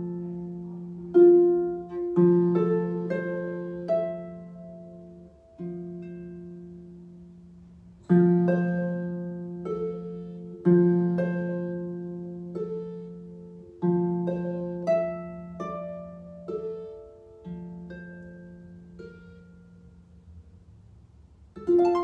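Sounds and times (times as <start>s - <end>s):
slow harp music: 0.0s - 22.0s.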